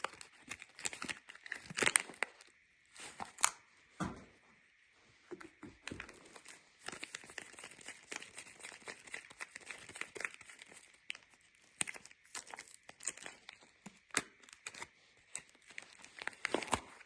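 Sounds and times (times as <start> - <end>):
packaging crinkling and tearing: 0.0 - 3.6, 5.8 - 17.0.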